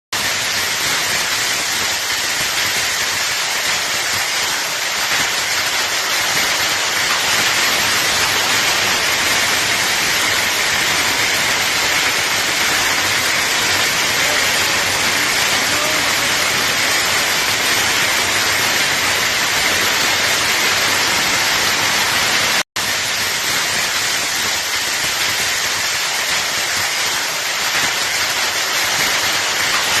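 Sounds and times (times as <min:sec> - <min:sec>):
torrential rain with hail: 0:00.2 - 0:30.0.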